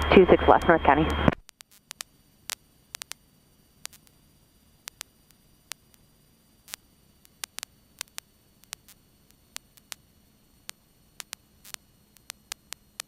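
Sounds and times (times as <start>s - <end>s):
radio static clicks and crackles: 0.0s - 13.0s.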